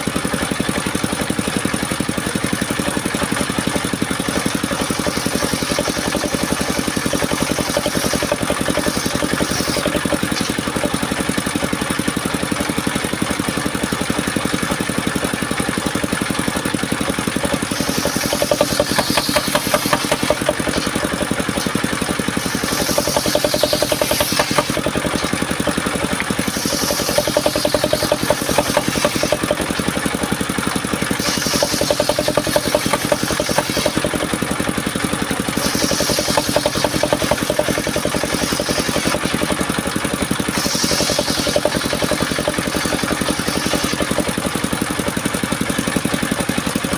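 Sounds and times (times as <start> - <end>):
sawmill engine running: 0.0 - 46.9
saw blade cutting wood: 2.2 - 46.6.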